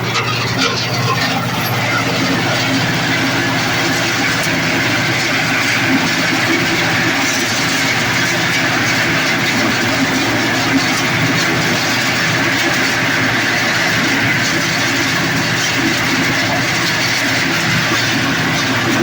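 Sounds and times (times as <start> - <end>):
husking machine clatter: 0.0 - 19.0.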